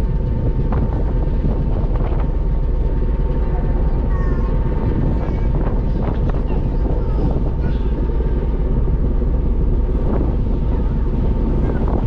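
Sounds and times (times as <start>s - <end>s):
ferry engine deep rumble: 0.0s - 12.0s.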